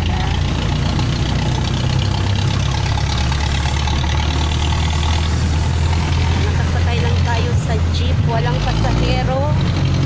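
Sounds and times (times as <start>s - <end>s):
diesel engine droning: 0.0s - 10.0s
road noise: 0.0s - 10.0s.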